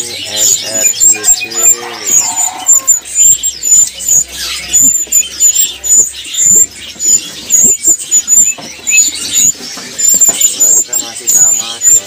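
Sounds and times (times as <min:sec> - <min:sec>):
chatter of bird calls: 0:00.0 - 0:12.0
small songbirds chirping: 0:00.0 - 0:12.0.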